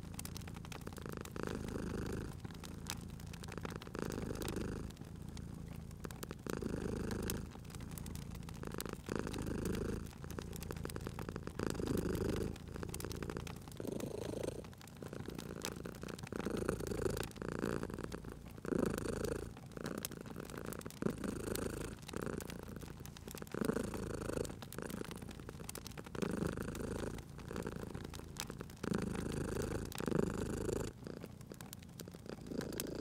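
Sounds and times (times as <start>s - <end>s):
cat purring: 0.0s - 33.0s
wood fire crackling: 0.0s - 33.0s.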